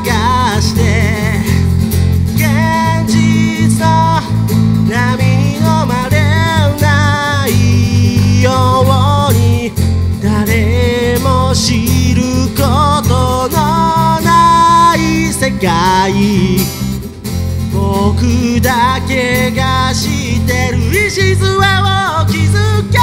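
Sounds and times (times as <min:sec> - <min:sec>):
person singing: 0:00.0 - 0:16.7, 0:17.7 - 0:23.0
electric bass: 0:00.0 - 0:23.0
strummed acoustic guitars: 0:00.0 - 0:23.0.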